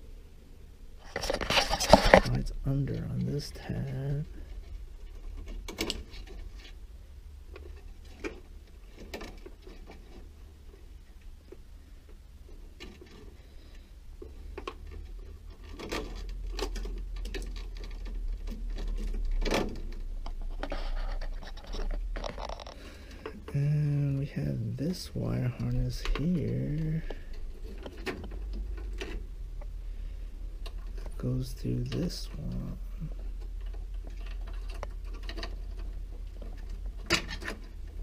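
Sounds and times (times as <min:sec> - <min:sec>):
wires scraping against plastic: 0:01.0 - 0:06.9, 0:07.5 - 0:38.0.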